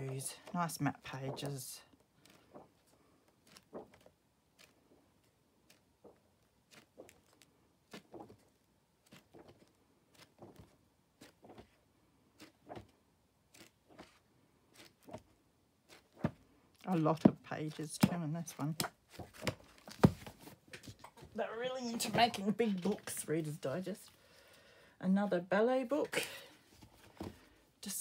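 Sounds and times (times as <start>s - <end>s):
book pages turning: 0.0s - 24.2s, 26.7s - 27.5s.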